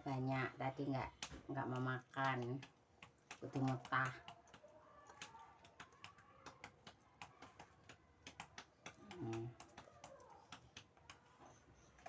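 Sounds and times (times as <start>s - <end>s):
eating clicks and ticks: 0.0s - 12.0s.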